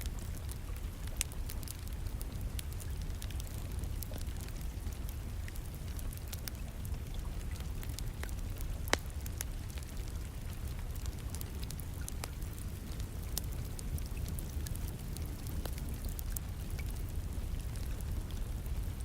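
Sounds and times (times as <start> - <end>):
low rumble of rain: 0.0 - 19.0
wood fire crackling and popping: 0.0 - 19.0.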